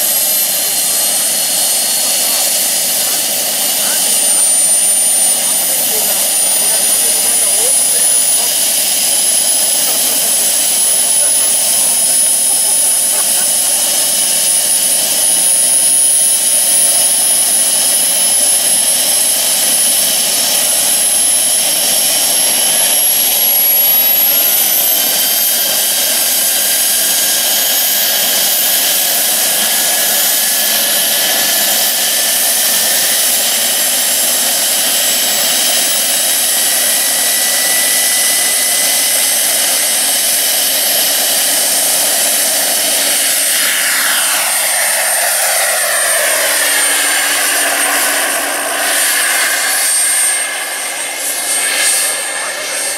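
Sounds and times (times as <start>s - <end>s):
high turbine whine rising: 0.0s - 52.9s
model gas turbine jet rush: 0.0s - 52.9s.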